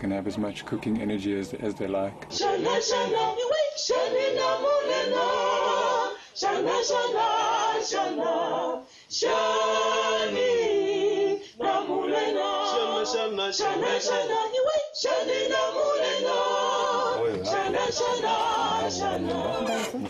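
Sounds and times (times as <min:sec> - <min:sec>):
group singing unaccompanied: 0:01.7 - 0:20.0.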